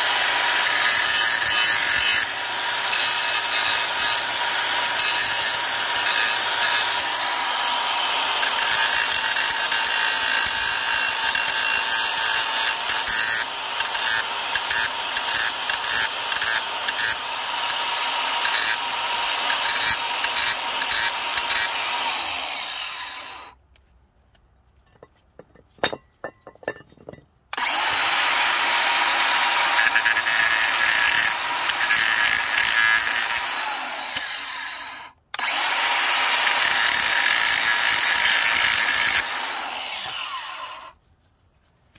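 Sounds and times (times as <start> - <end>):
angle grinder grinding metal: 0.0 - 23.6, 24.9 - 41.0.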